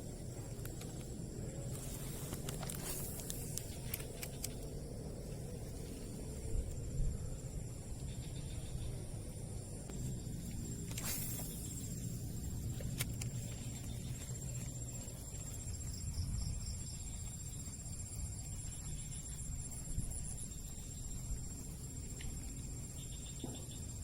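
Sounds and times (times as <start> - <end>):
insect pulsed trills: 0.0 - 24.0
insects high-pitched whine: 0.0 - 24.0
low steady rumble: 0.0 - 24.0.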